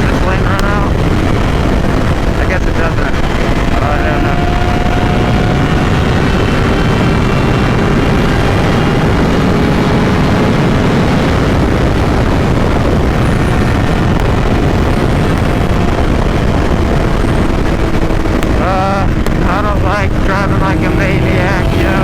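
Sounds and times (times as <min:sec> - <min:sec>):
motorcycle engine hum: 0:00.0 - 0:22.0
wind rush over microphone: 0:00.0 - 0:22.0.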